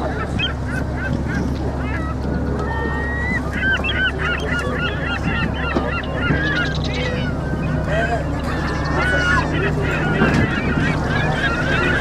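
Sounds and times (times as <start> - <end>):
boat engine hum: 0.0 - 12.0.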